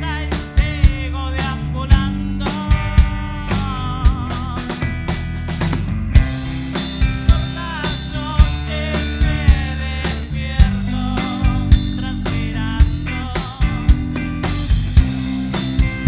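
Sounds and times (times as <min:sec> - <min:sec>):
bass guitar: 0:00.0 - 0:16.0
bending guitar lines: 0:00.0 - 0:16.0
drum kit hits: 0:00.0 - 0:16.0
sustained electric guitar: 0:00.0 - 0:16.0.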